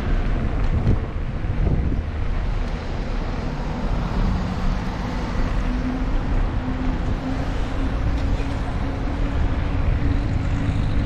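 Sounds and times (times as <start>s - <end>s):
bicycle road noise: 0.0s - 11.0s
wind buffeting the microphone: 0.0s - 11.0s.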